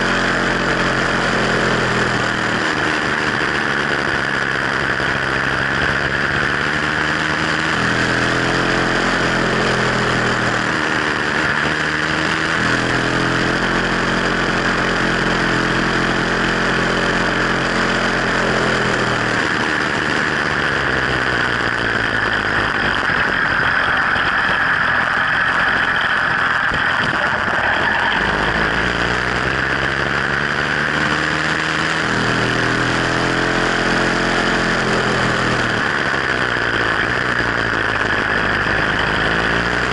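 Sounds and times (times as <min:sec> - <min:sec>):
two-stroke bicycle engine running: 0:00.0 - 0:39.9.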